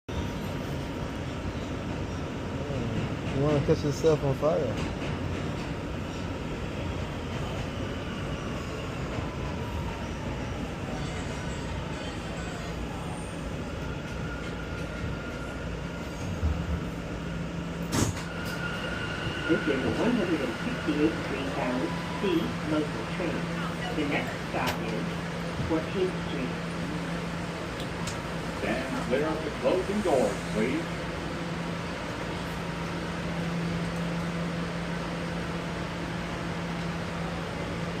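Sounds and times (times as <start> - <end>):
subway train wheels rumbling: 0.1 - 38.0.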